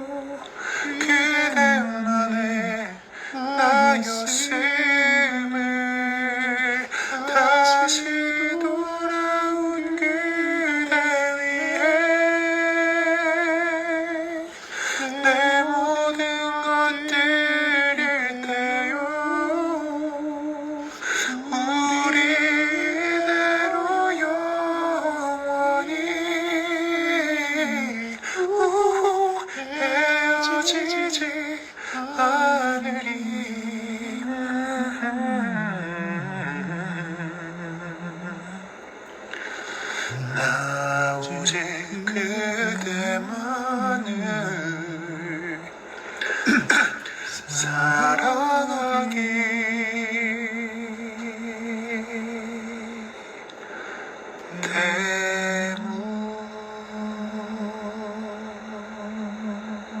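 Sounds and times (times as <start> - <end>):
man singing a slow ballad: 0.0 - 60.0.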